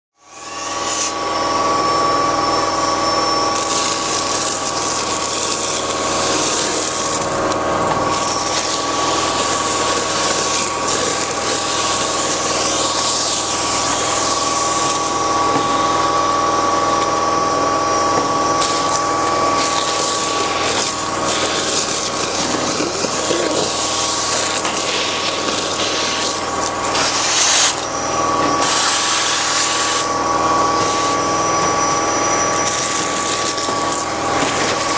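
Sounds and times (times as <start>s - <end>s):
gutter vacuum motor running: 0.2s - 34.9s.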